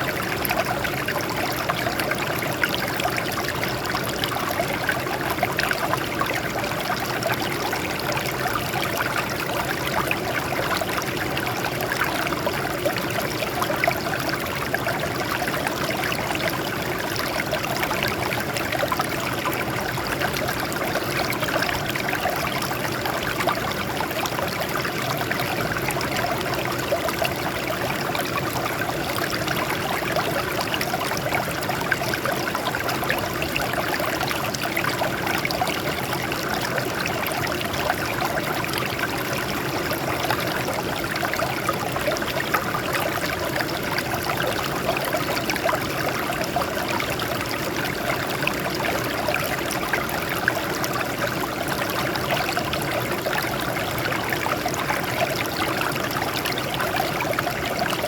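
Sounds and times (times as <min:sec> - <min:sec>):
water flowing over rocks: 0:00.0 - 0:58.0.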